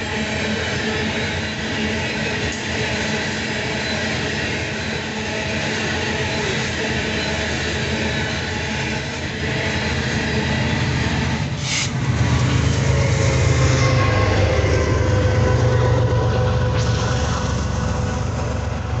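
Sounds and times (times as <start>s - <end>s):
diesel locomotive engine drone: 0.0s - 19.0s
train wheels clattering on rails: 0.0s - 19.0s.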